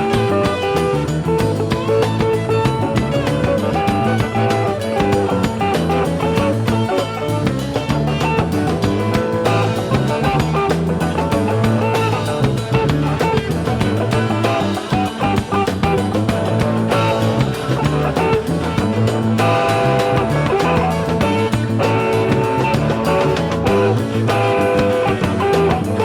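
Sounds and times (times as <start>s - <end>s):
rock music: 0.0s - 26.0s.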